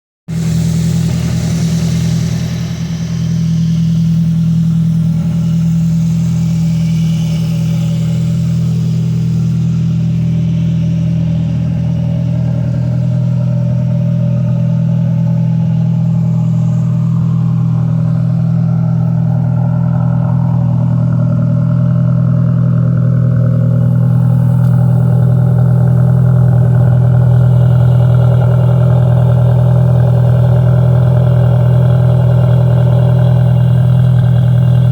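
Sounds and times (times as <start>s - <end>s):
car engine idling: 0.3s - 34.9s.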